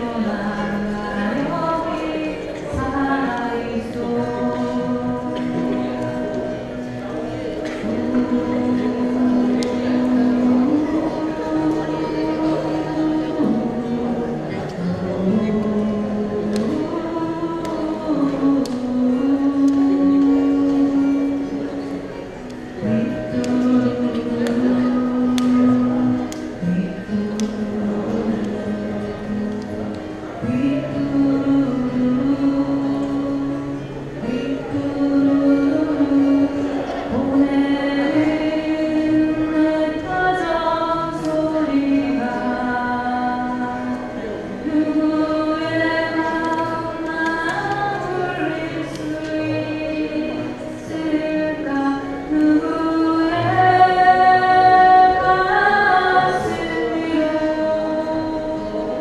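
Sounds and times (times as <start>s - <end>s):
acoustic guitar: 0.0s - 59.0s
person singing a ballad: 0.0s - 59.0s.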